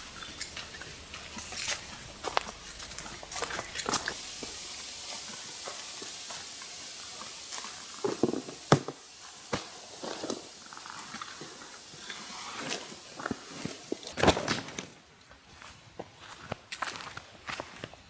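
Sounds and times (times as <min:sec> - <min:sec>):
steady hiss: 0:00.0 - 0:15.1.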